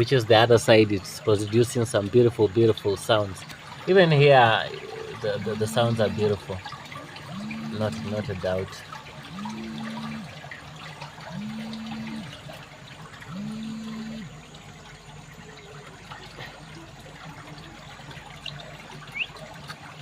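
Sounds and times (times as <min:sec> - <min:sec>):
stream water rushing: 0:00.0 - 0:20.0
low steady tone: 0:03.6 - 0:19.7.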